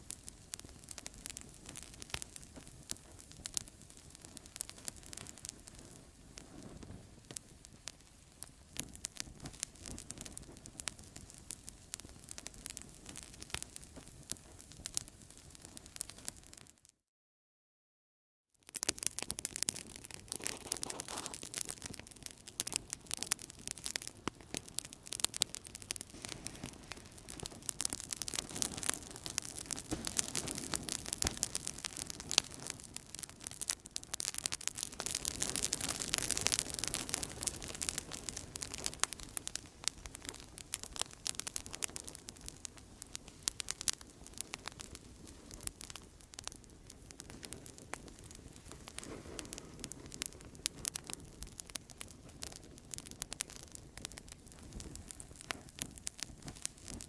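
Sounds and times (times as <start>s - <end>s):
campfire crackling: 0.0s - 16.8s, 18.7s - 57.0s.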